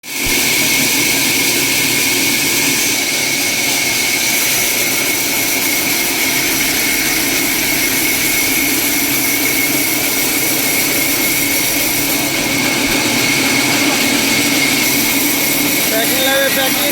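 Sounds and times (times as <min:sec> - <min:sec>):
power tool whining: 0:00.0 - 0:16.9.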